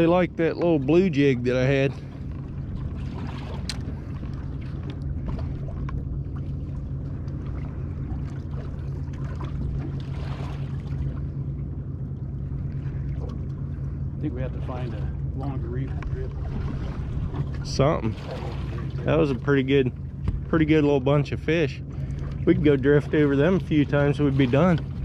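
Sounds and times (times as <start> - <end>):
boat motor idling: 0.0 - 25.0.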